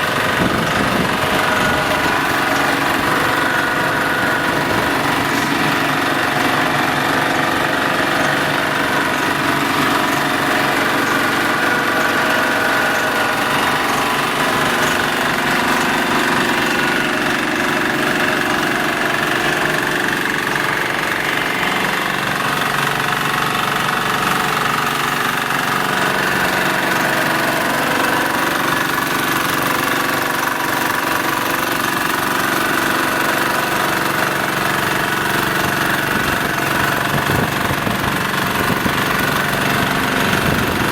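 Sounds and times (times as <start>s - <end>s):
rapid knocking pulse: 0.0s - 40.9s
road roller engine running: 0.0s - 40.9s.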